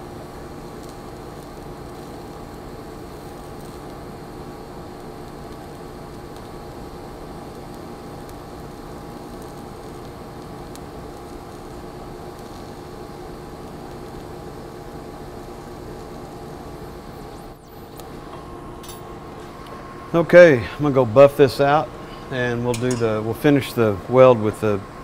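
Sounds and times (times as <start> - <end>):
welding arc hissing: 0.0 - 25.0.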